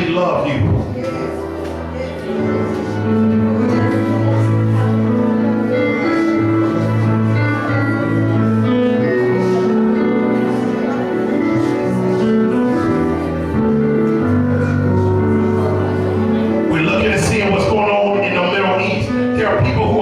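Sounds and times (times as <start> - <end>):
instrumental music with held chords: 0.8 - 20.0.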